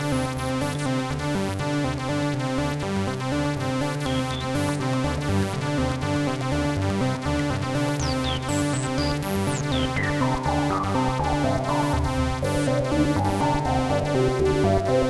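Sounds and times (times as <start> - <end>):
synth bass line: 1.9 - 15.0.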